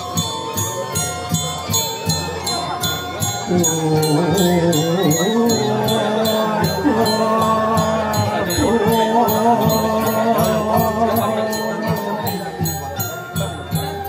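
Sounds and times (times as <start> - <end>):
metallic bell-like ringing: 0.0 - 14.0
voices chanting: 0.0 - 14.0.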